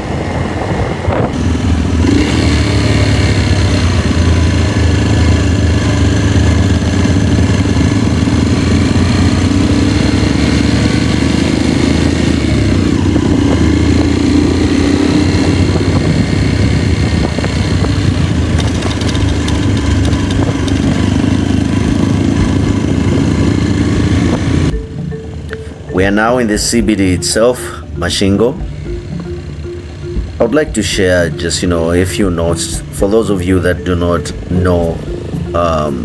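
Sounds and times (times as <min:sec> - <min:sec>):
motorcycle engine running: 0:00.0 - 0:36.0
road noise: 0:00.0 - 0:36.0.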